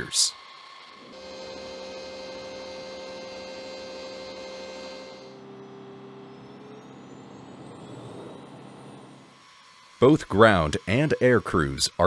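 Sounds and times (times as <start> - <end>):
whining machinery hum: 0.0 - 12.0
faint rising whine: 1.0 - 11.4.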